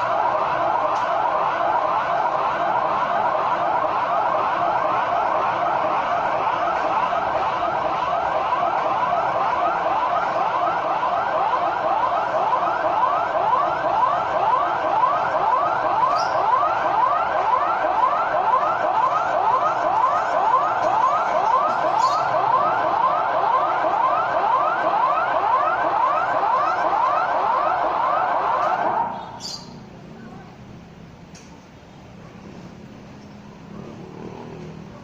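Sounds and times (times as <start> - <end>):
warning siren yelp: 0.0 - 30.0.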